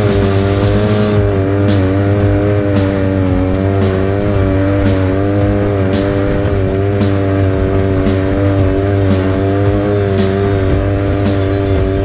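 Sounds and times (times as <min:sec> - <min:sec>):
rock music with drum hits: 0:00.0 - 0:12.0
vehicle engine running: 0:00.0 - 0:12.0.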